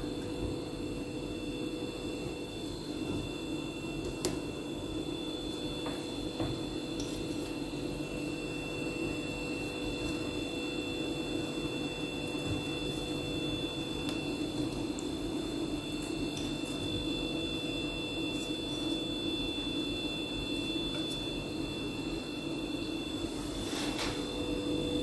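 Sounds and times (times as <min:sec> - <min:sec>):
background hum and hiss: 0:00.0 - 0:25.0.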